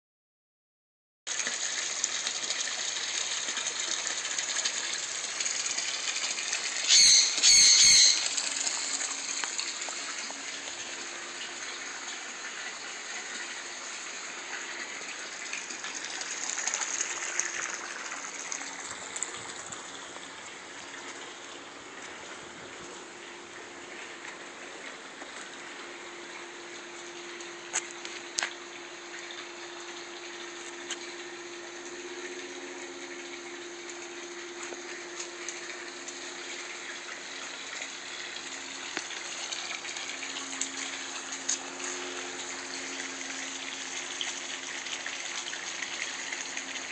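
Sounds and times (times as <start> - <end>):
faint pump hum: 1.3 - 46.9
water running: 1.3 - 46.9.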